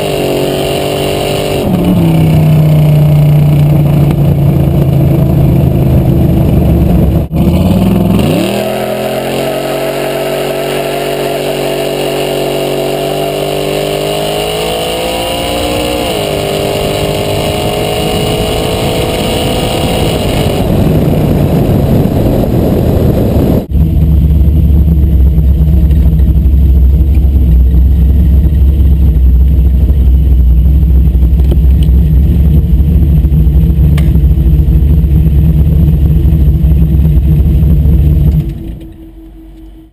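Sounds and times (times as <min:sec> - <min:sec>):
car engine rumbling under hard pull: 0:00.0 - 0:39.9
road noise: 0:00.0 - 0:39.9.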